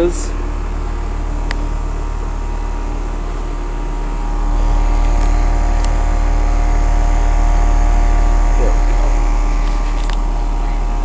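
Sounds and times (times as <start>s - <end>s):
compressor hum: 0.0s - 11.0s
condenser fans blowing: 0.0s - 11.0s.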